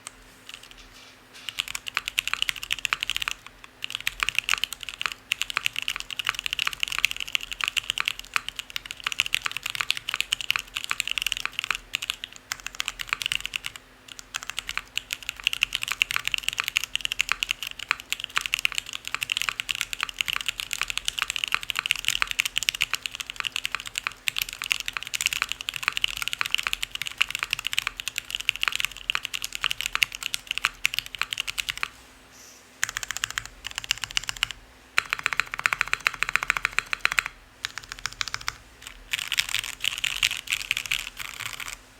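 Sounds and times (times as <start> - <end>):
fast typing on mechanical keyboard: 0.0 - 31.9, 32.8 - 41.8.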